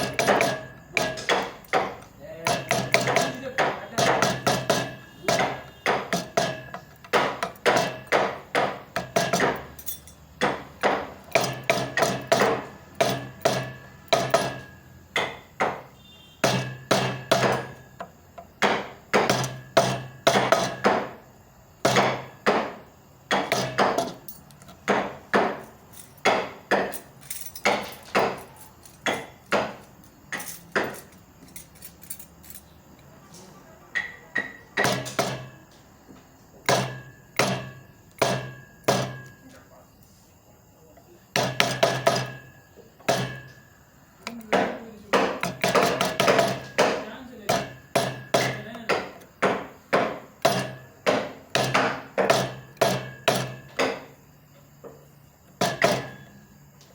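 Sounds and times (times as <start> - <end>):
chisel striking wood: 0.0 - 9.8, 10.4 - 25.6, 26.2 - 26.9, 27.6 - 31.0, 33.9 - 35.7, 36.6 - 39.5, 41.3 - 54.2, 55.5 - 56.3.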